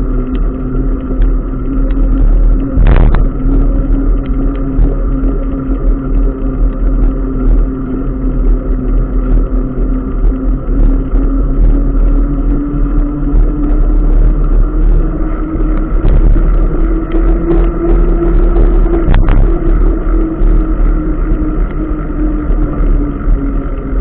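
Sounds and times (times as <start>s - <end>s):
heavy low rumble: 0.0s - 24.0s
vehicle motor drone rising in pitch: 0.0s - 24.0s.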